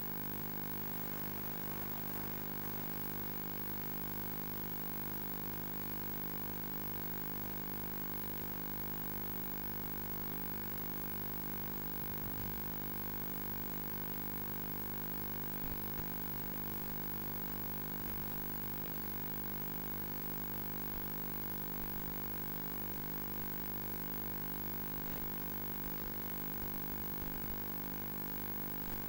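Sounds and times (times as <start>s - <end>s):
electronic hum and hiss: 0.0s - 29.0s.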